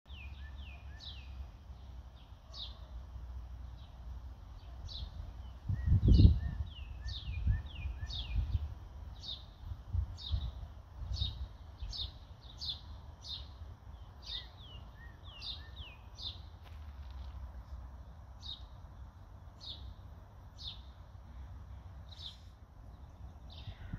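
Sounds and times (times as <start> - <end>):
birds chirping: 0.1 - 23.9.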